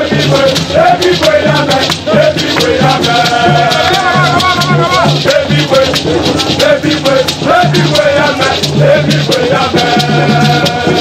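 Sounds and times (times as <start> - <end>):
gourd rattle shaken: 0.0 - 11.0
men singing together: 0.0 - 11.0.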